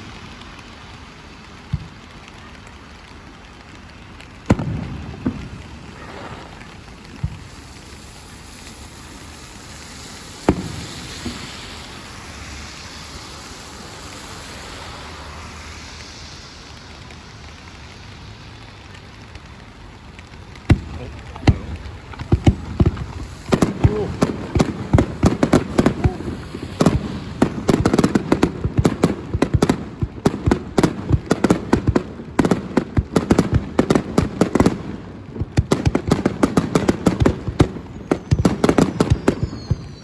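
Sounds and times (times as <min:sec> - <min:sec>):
rain falling: 0:00.0 - 0:40.0
fireworks bangs: 0:01.4 - 0:40.0.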